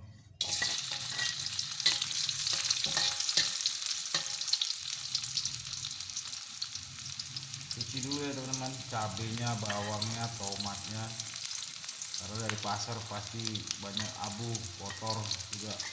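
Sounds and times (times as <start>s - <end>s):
shallots and garlic sizzling in oil: 0.4s - 15.9s.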